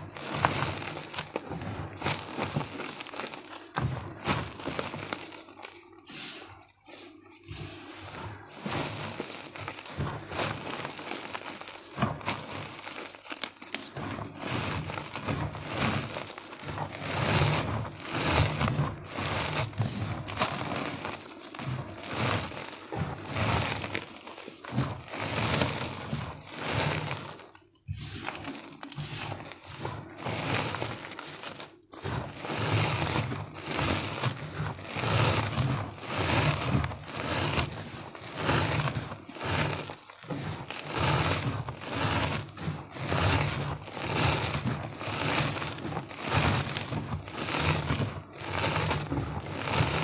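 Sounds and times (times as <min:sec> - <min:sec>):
chalk crunching and crackling: 0:00.0 - 0:50.0.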